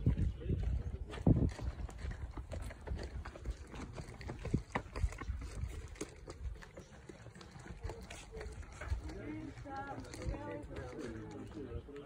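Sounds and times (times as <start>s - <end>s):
footsteps on paved trail: 0.0s - 12.0s.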